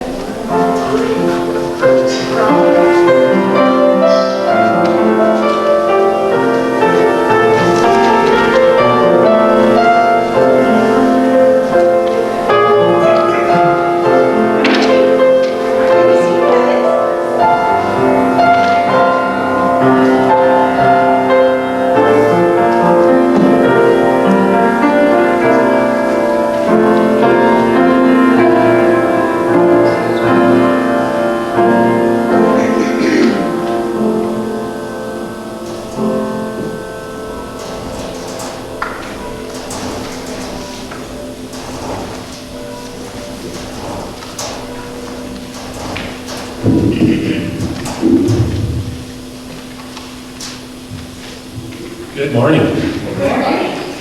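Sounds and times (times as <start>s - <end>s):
slow keyboard chords: 0.0s - 54.0s.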